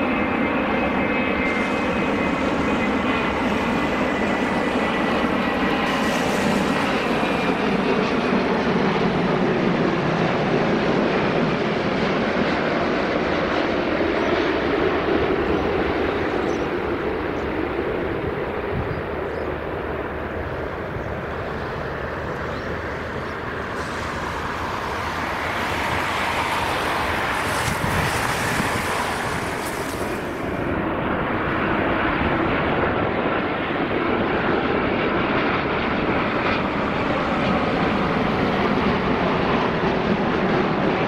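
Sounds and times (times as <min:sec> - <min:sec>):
jet airliner engines passing: 0:00.0 - 0:41.0.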